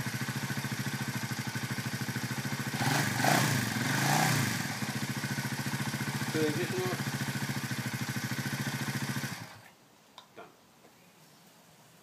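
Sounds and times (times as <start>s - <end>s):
motorcycle engine idling and revving: 0.0s - 9.7s.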